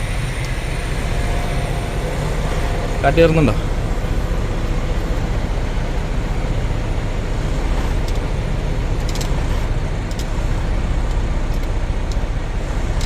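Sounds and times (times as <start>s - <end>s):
cab fan blowing air: 0.0s - 13.0s
diesel engine idling: 0.0s - 13.0s
faint clicks: 0.0s - 13.0s.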